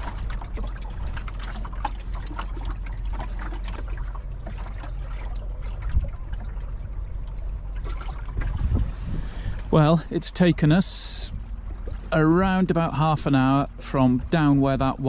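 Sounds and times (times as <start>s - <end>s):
steady low rumble: 0.0s - 15.0s
water lapping against boat hull: 0.0s - 15.0s.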